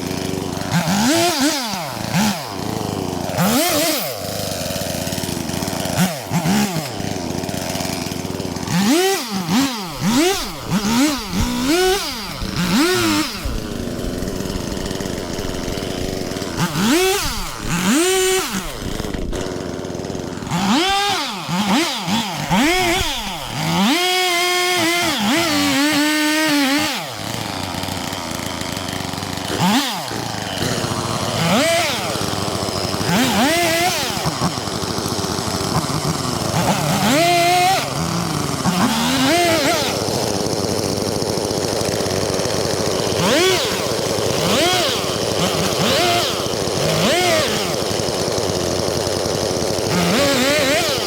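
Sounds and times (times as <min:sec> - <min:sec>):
chainsaw revving: 0:00.0 - 0:51.0.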